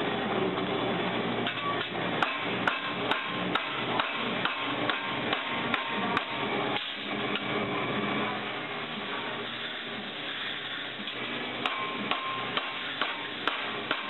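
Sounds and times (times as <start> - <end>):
steady shop noise: 0.0 - 14.0.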